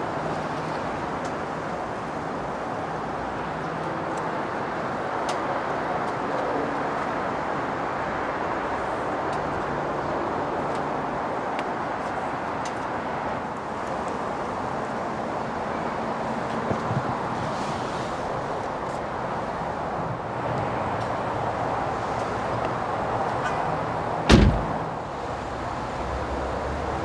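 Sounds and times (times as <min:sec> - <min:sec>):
traffic hum: 0:00.0 - 0:27.0.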